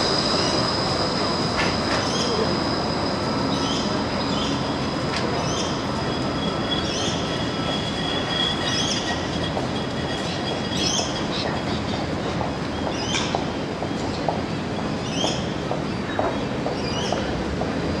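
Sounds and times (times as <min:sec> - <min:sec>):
tram wheels rumbling on rail: 0:00.0 - 0:18.0.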